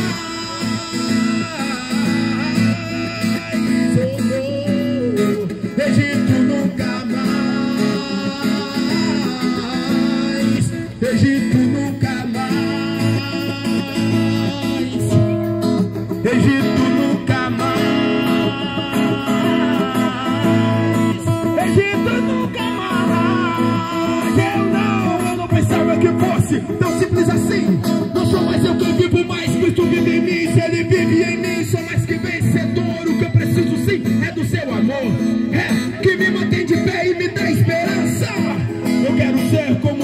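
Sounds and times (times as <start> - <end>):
acoustic guitar strumming: 0.0 - 40.0
man singing into a microphone: 0.0 - 40.0.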